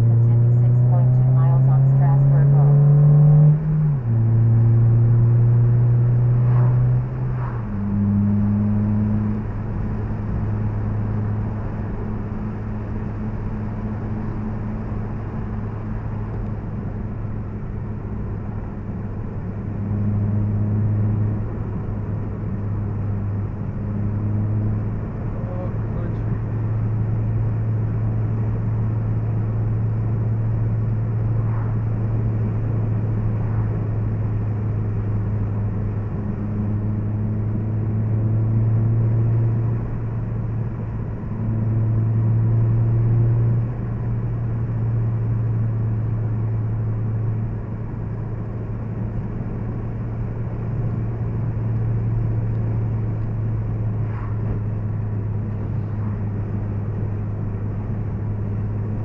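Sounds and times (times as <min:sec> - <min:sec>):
car engine droning: 0:00.0 - 0:59.0
road and tyre noise: 0:00.0 - 0:59.0.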